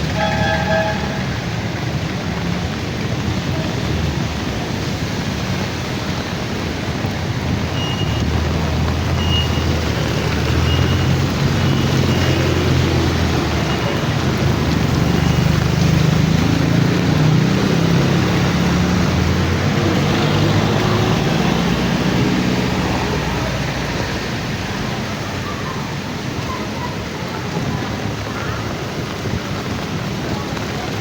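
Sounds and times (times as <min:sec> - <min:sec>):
rain hiss: 0:00.0 - 0:31.0
tyres on wet road: 0:00.0 - 0:31.0
vehicle engine rumbling: 0:00.0 - 0:31.0.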